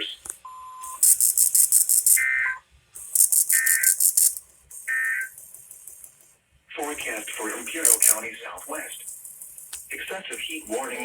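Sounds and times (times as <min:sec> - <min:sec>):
steady beep: 0:00.0 - 0:06.2, 0:06.8 - 0:11.0
fast pulsing high-pitched buzz: 0:00.8 - 0:02.4, 0:03.0 - 0:11.0
warbling digital tone bursts: 0:00.8 - 0:06.2, 0:06.8 - 0:11.0.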